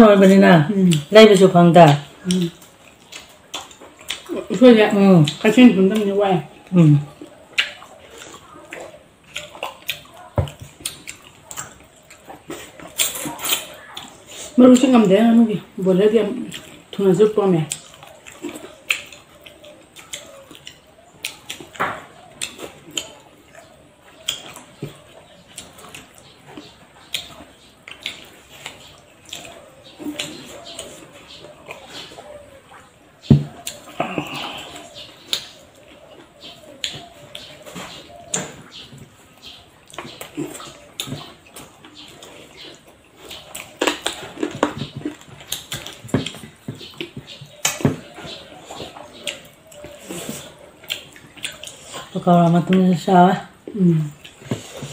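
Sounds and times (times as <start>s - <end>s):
chewing and lip smacks: 0.9s - 15.0s, 16.3s - 17.0s, 17.6s - 52.8s, 53.6s - 54.9s.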